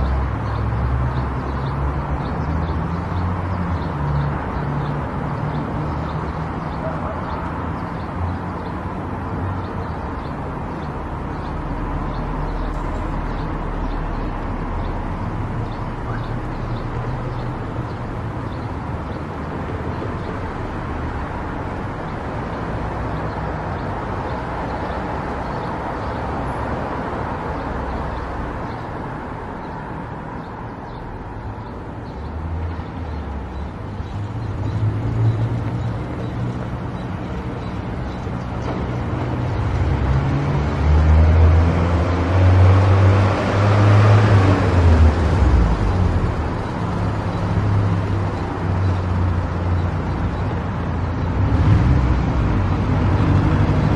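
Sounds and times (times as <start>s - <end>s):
car engine and tyre noise: 0.0s - 53.9s.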